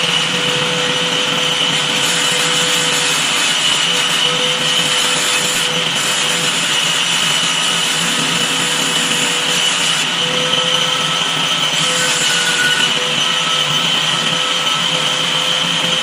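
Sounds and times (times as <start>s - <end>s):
table saw cutting wood: 0.0s - 16.0s.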